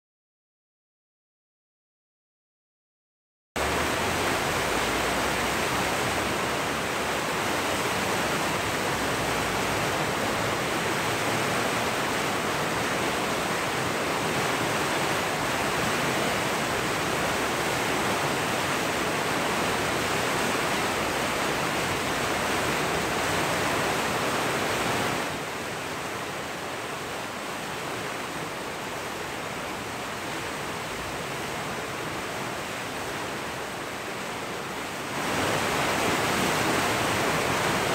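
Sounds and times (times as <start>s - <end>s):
river white water rushing: 3.6s - 37.9s.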